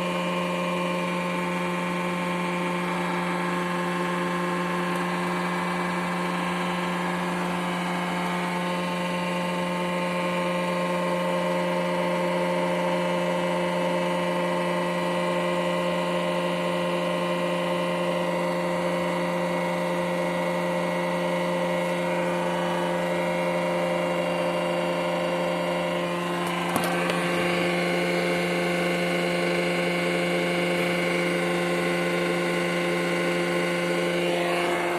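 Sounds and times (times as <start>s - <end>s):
car engine idling with exhaust leak: 0.0s - 34.9s.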